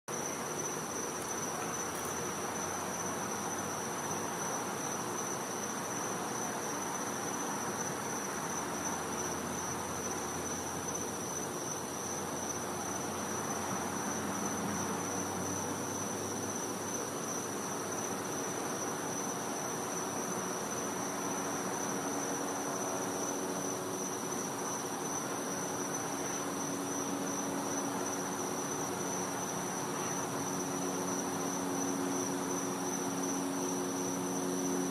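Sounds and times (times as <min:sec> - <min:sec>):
insect high-pitched trill: 0:00.1 - 0:34.9.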